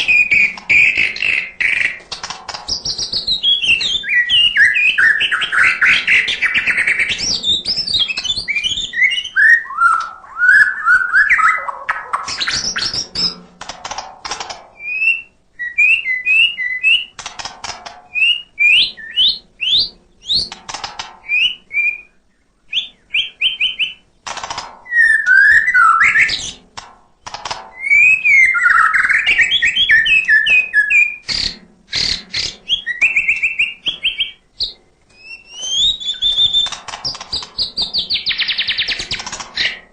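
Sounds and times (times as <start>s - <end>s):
bird singing varied whistled song: 0.0s - 2.0s, 2.7s - 13.4s, 14.8s - 17.2s, 18.1s - 20.6s, 21.2s - 24.1s, 24.8s - 26.6s, 27.7s - 39.8s
bird clicking notes: 0.0s - 15.2s, 15.8s - 22.0s, 22.7s - 39.9s.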